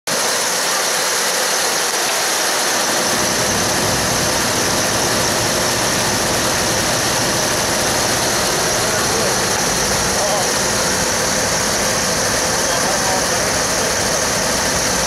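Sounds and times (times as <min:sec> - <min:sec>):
diesel engine idling: 0:02.5 - 0:15.0.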